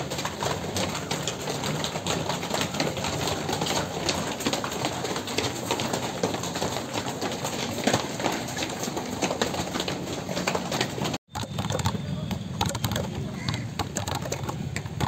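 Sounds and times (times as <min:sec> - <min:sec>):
sneakers slapping on concrete: 0:00.0 - 0:15.0.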